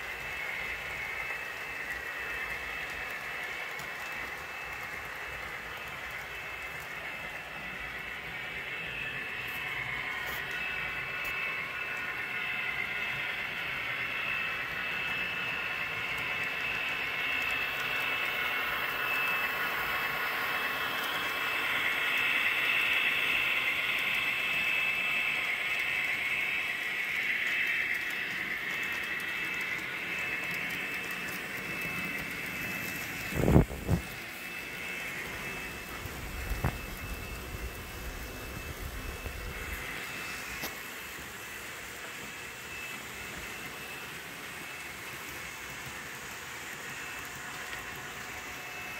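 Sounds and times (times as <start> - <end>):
high steady whine: 0.0 - 48.9
model train motors whirring: 0.0 - 48.9.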